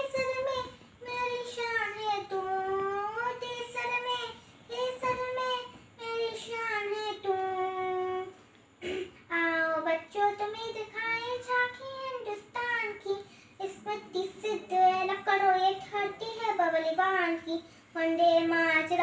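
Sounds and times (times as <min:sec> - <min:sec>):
girl singing unaccompanied: 0:00.0 - 0:19.0.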